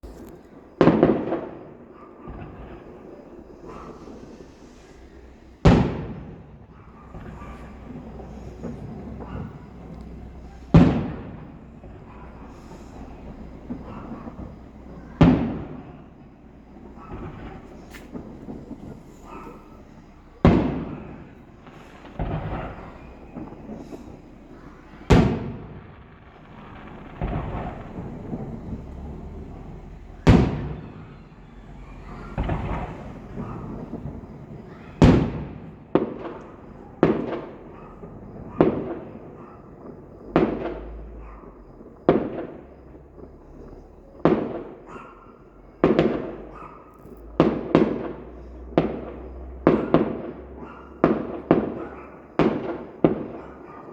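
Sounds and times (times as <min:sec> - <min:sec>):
fireworks bangs with echo: 0:00.0 - 0:53.9.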